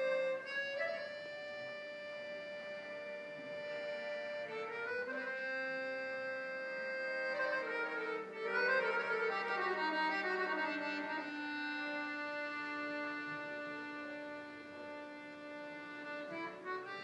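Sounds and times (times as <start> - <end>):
solo accordion melody: 0.0 - 17.0.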